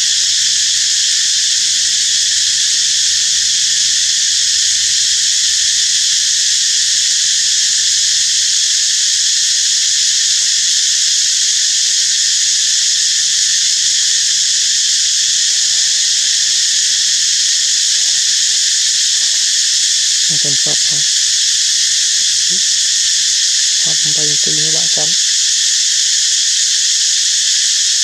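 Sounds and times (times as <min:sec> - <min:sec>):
insects chorus high-pitched hiss: 0:00.0 - 0:28.0.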